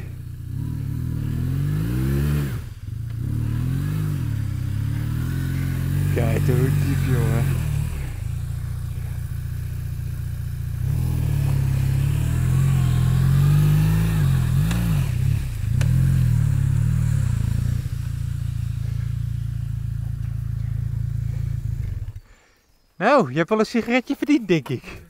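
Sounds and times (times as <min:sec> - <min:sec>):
motorcycle engine revving: 0:00.0 - 0:22.7.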